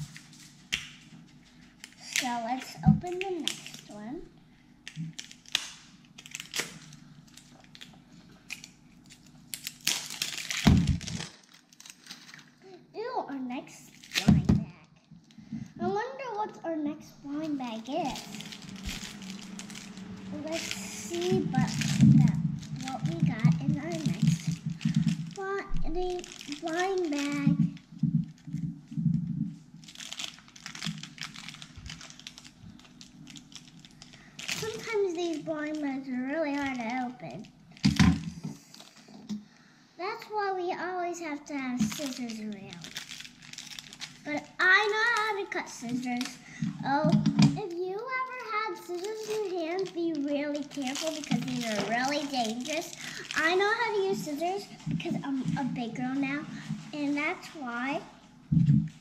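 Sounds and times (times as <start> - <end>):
plastic wrapping crinkling: 0.0 - 12.7, 13.8 - 39.4, 41.8 - 58.0.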